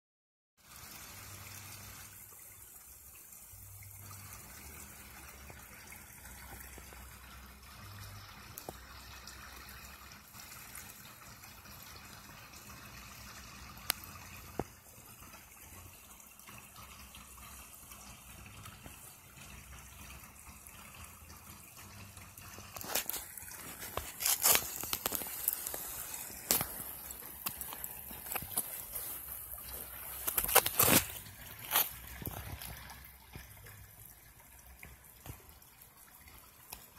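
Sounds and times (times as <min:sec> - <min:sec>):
creek babbling over stones: 0:00.6 - 0:36.9.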